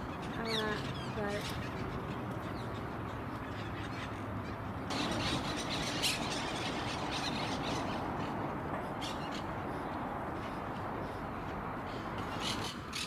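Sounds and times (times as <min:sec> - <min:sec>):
parakeets squawking: 0:00.0 - 0:11.2, 0:11.9 - 0:13.0.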